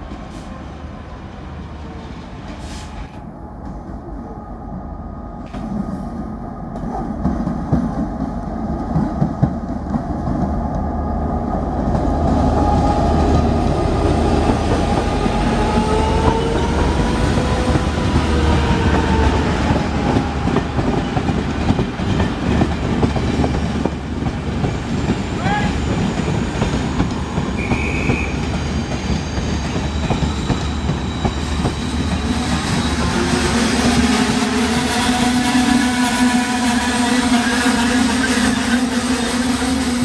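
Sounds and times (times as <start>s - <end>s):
diesel train running: 0.0s - 40.0s.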